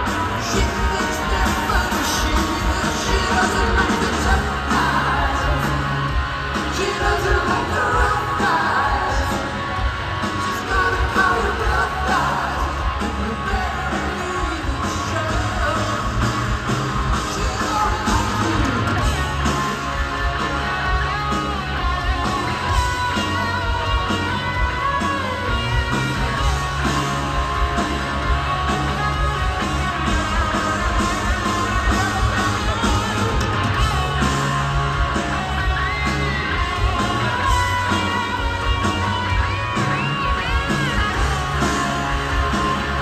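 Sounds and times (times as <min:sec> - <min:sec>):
live rock band: 0:00.0 - 0:43.0.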